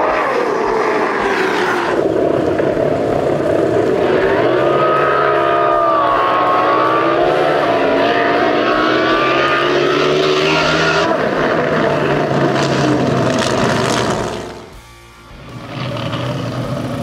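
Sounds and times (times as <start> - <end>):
boat engine roaring: 0.0 - 17.0.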